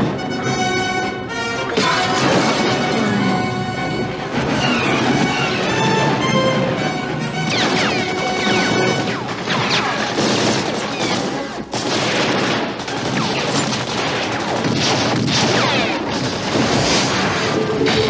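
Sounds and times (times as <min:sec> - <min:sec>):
action film music: 0:00.0 - 0:18.0
explosions and crashes: 0:01.8 - 0:03.6, 0:04.2 - 0:18.0.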